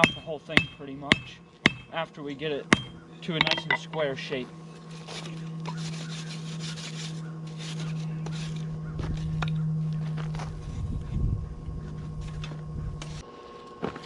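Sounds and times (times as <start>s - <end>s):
forge humming and hissing: 0.0s - 14.0s.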